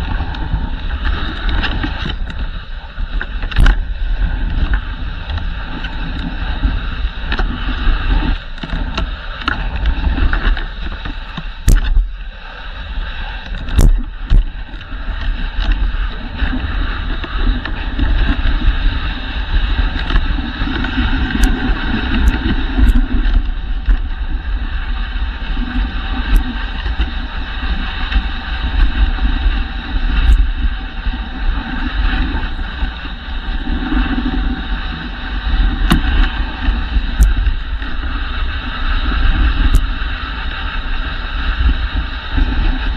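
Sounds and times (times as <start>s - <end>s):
sled clicks and knocks: 0.0s - 12.2s, 13.3s - 42.9s
sled runners rushing over snow: 0.0s - 42.9s.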